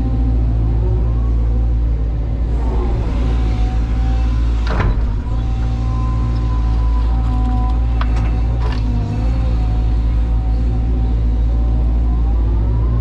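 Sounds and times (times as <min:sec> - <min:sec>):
excavator diesel engine: 0:00.0 - 0:13.0
hydraulic whine: 0:00.0 - 0:13.0.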